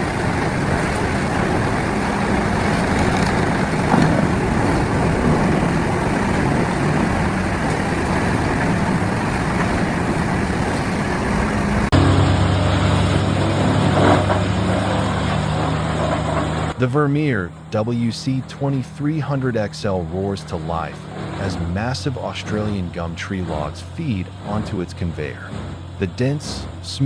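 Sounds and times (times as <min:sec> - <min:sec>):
wood-processing machinery grinding: 0:00.0 - 0:17.4, 0:19.5 - 0:27.0
machine engine drone: 0:00.0 - 0:27.0.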